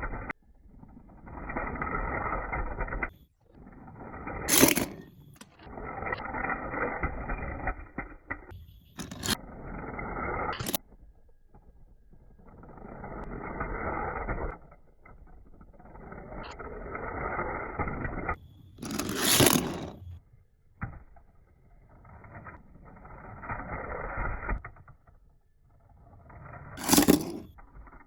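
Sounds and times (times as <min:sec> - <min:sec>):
plastic scraping and rubbing: 0:00.0 - 0:20.2, 0:21.8 - 0:28.0.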